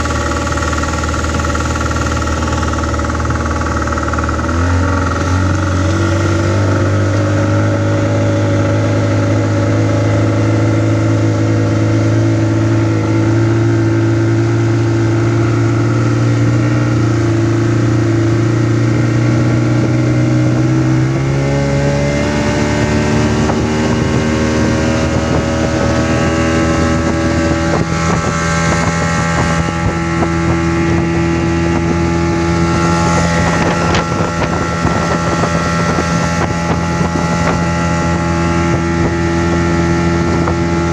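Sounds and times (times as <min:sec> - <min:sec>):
motorboat engine running: 0:00.0 - 0:40.9
water rushing: 0:00.0 - 0:40.9
wind on microphone: 0:00.0 - 0:40.9.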